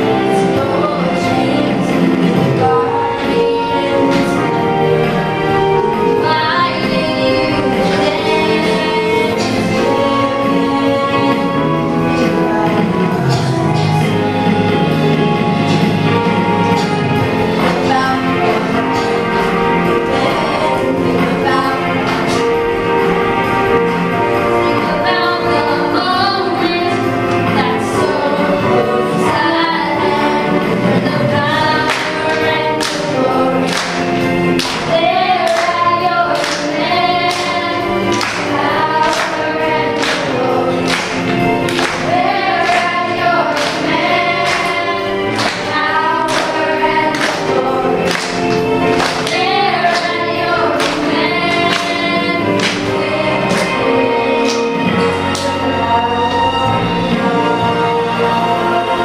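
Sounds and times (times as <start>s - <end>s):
group singing into microphones: 0.0s - 59.0s
musical accompaniment with steady beat: 0.0s - 59.0s.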